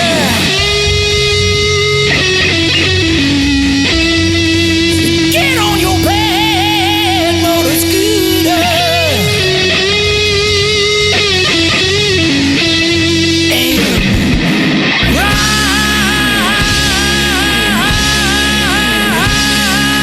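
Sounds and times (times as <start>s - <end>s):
electric guitar bent notes: 0.0s - 20.0s
rock band playing: 0.0s - 20.0s.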